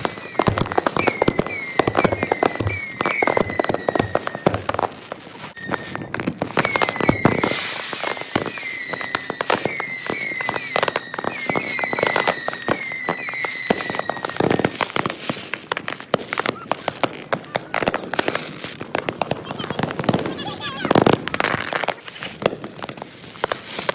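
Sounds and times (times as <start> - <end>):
fireworks bangs and crackles: 0.0 - 23.9
fireworks whistling: 0.0 - 23.9.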